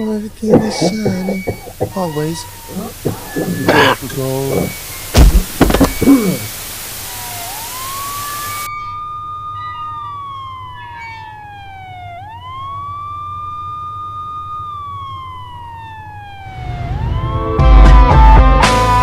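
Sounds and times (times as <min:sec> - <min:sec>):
siren wailing: 0:00.0 - 0:18.3.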